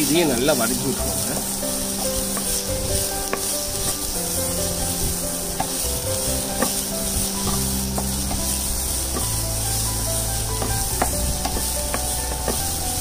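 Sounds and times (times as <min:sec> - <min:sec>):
food sizzling in hot oil: 0:00.0 - 0:13.0
wooden spatula stirring: 0:00.0 - 0:13.0
spatula tapping pan: 0:01.1 - 0:13.0.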